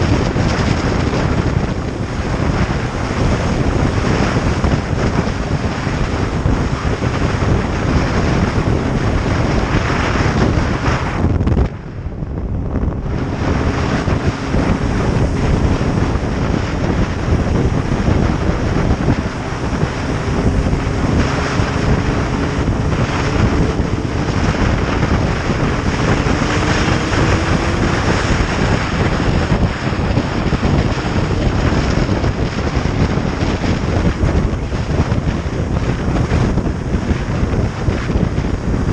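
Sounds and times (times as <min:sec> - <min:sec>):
motorcycle engine: 0:00.0 - 0:38.9
wind rush on microphone: 0:00.0 - 0:38.9.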